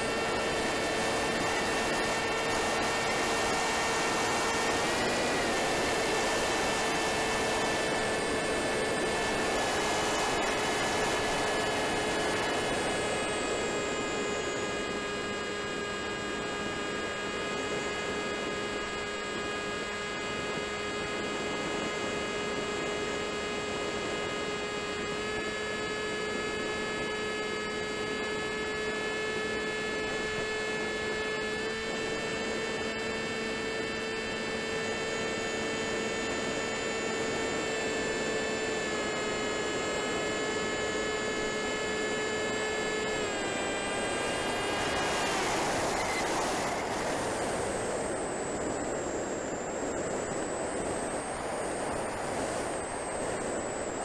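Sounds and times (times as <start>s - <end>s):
electric motor and propeller whining: 0.0s - 54.0s.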